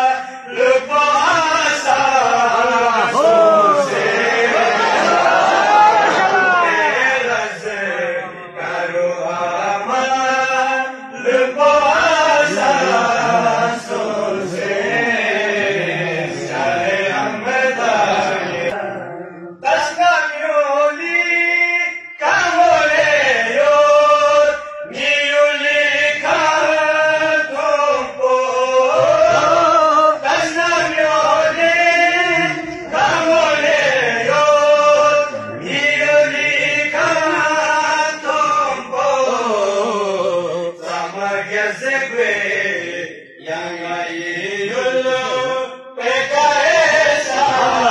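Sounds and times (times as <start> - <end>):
men singing devotional song: 0.0 - 47.9.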